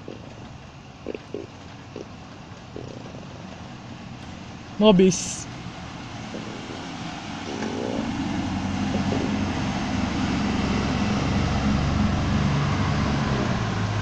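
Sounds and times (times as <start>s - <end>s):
vehicle engine hum passing: 0.0s - 14.0s.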